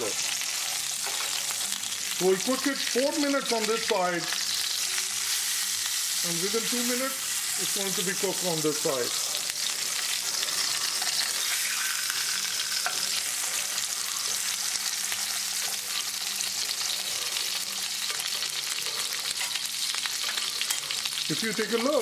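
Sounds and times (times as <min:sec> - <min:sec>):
fish sizzling in frying pan: 0:00.0 - 0:22.0.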